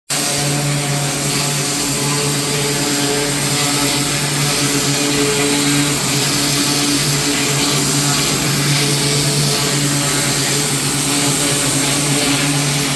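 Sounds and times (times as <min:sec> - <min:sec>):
pressure washer engine hum: 0:00.2 - 0:12.9.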